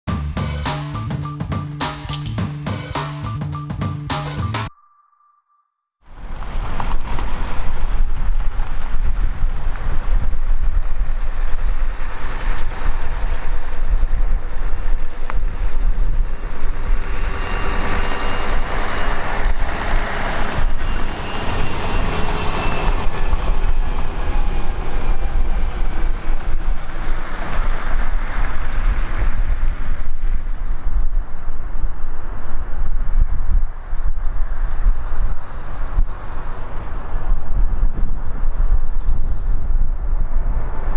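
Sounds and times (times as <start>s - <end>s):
jet airliner roaring past: 6.2s - 40.9s.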